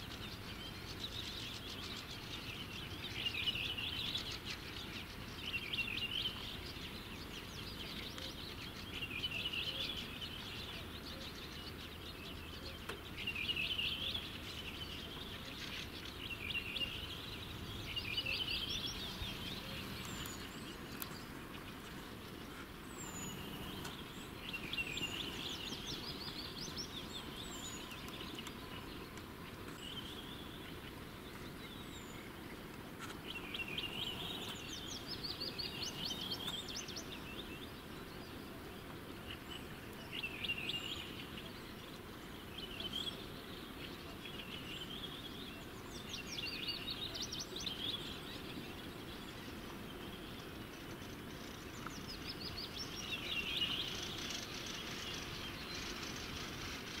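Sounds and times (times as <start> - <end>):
songbirds trilling: 0.0 - 57.0.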